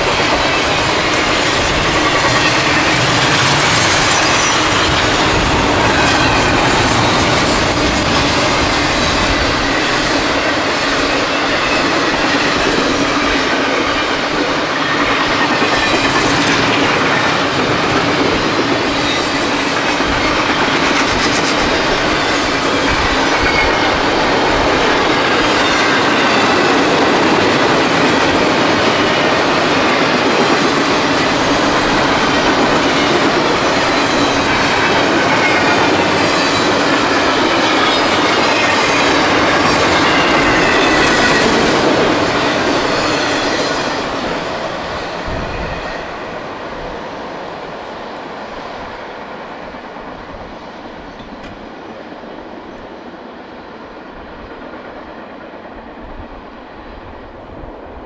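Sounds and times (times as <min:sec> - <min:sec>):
freight train wheels clattering: 0:00.0 - 0:46.8.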